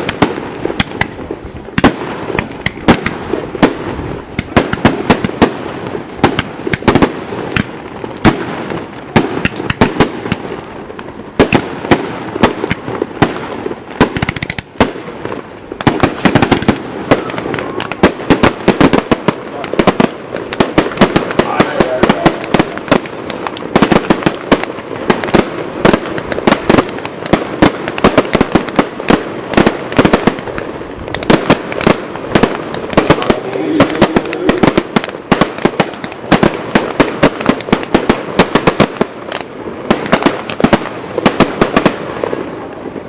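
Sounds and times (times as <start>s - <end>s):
fireworks banging and cracking: 0.0s - 43.0s.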